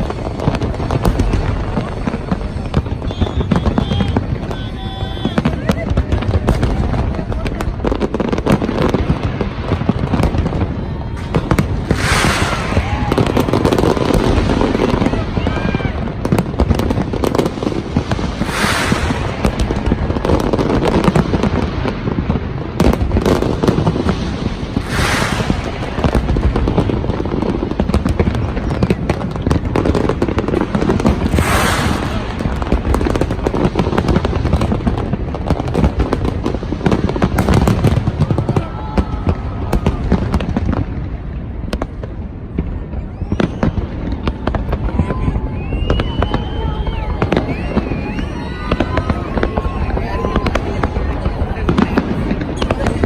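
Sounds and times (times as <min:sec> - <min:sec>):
fireworks bangs and booms: 0:00.0 - 0:53.0
fireworks crackle: 0:00.0 - 0:53.0.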